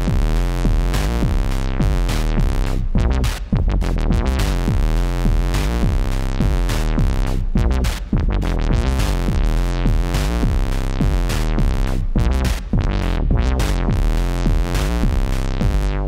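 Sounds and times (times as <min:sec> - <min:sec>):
drum machine hits: 0:00.0 - 0:16.0
synthesizer bass notes: 0:00.0 - 0:16.0.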